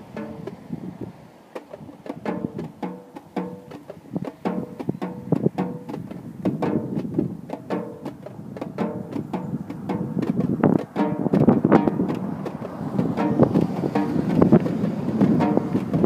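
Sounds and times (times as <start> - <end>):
snare drums playing: 0.1 - 0.6, 1.6 - 16.0.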